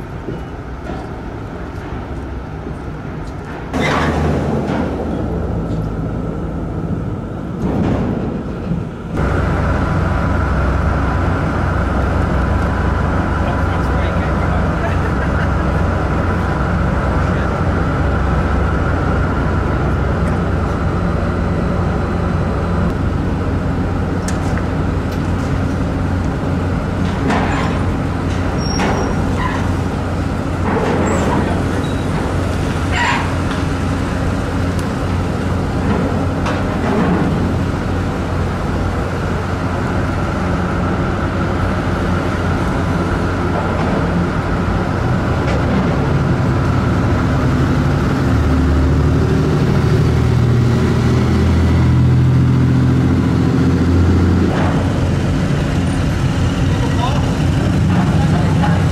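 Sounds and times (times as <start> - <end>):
cars driving across deck: 0.0 - 58.9
ferry machinery drone: 0.0 - 58.9.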